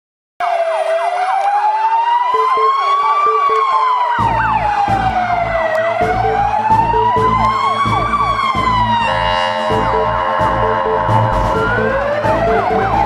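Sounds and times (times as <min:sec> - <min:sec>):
siren fast sweep: 0:00.4 - 0:13.0
siren slow wail: 0:00.4 - 0:13.0
music with steady bass beat: 0:02.4 - 0:13.0.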